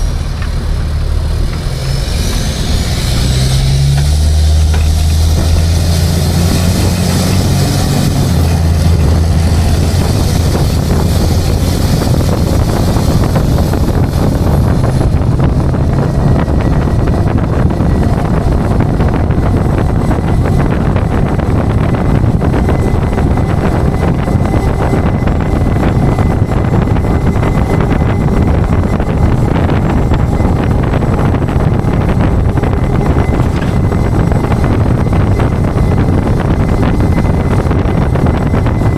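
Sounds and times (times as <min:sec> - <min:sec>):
truck engine and road rumble: 0:00.0 - 0:38.9
wind buffeting microphone: 0:00.0 - 0:38.9.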